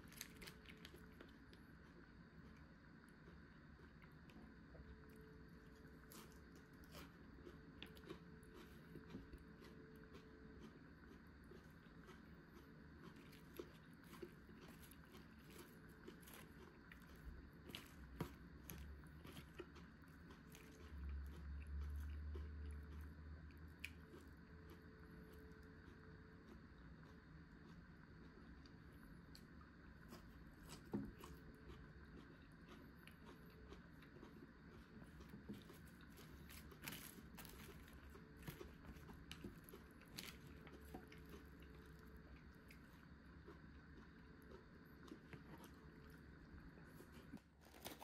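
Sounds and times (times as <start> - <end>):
faint chewing and crunching: 0.0 - 48.0.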